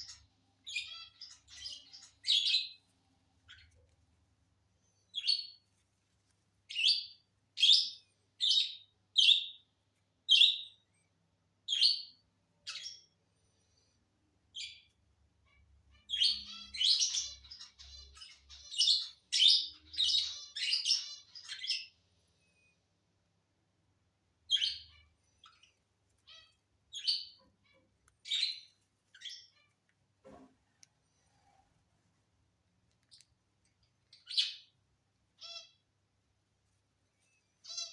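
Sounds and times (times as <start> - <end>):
lovebirds chirping: 0.0 - 5.8, 6.6 - 22.9, 24.3 - 30.1, 32.8 - 35.9, 37.2 - 37.9.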